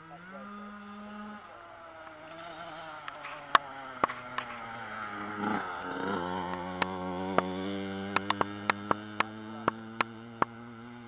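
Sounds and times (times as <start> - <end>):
dirt bike engine droning: 0.0 - 11.0.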